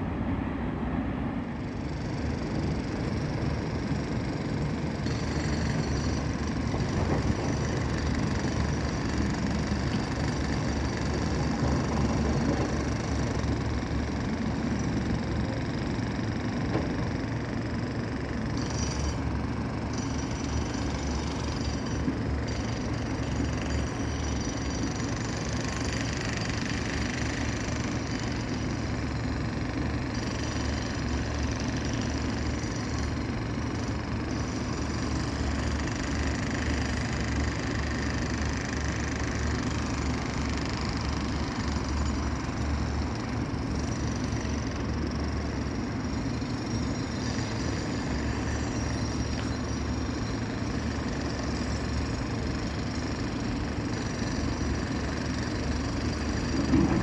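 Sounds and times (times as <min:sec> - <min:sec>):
heavy machinery diesel engines rumbling: 0:00.0 - 0:57.0.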